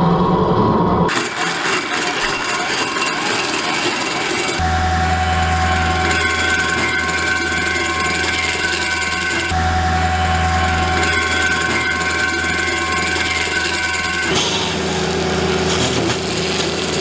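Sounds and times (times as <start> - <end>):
loader engine running: 0.0 - 17.0
stump grinder whine: 1.0 - 17.0.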